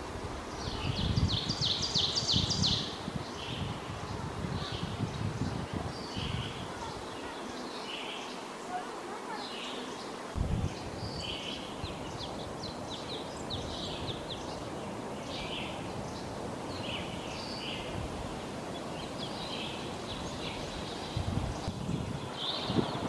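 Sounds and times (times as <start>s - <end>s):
background hiss: 0.0s - 23.0s
birds chirping: 0.4s - 23.0s.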